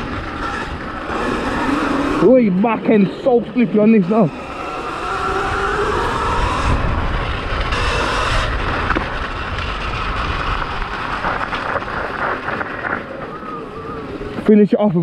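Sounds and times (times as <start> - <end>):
electric motor and chain whine: 0.0 - 14.5
tyres rumbling over rough ground: 0.0 - 15.0
wind rush on microphone: 0.0 - 15.0.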